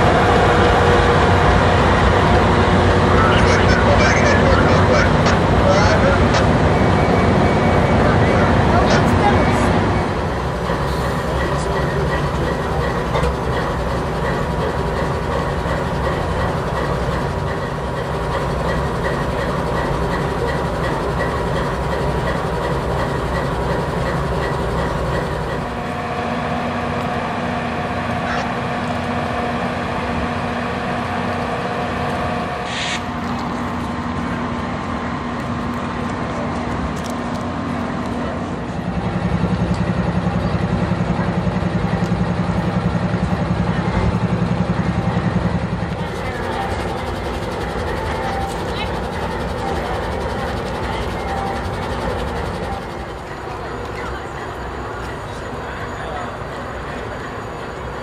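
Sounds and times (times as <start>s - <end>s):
low throbbing engine: 0.0s - 58.0s
train rumbling by: 0.0s - 58.0s.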